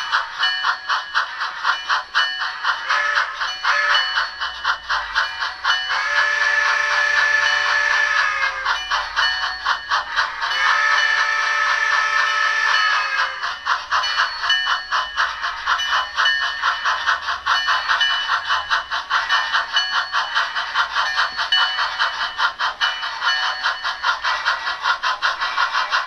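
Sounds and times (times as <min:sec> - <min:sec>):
model steam locomotive chuffs: 0:00.0 - 0:26.0.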